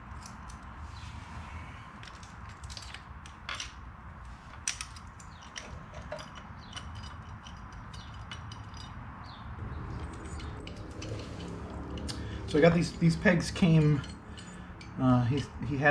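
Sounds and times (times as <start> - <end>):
metal bolts clicking and scraping: 0.0 - 0.8, 1.9 - 15.9.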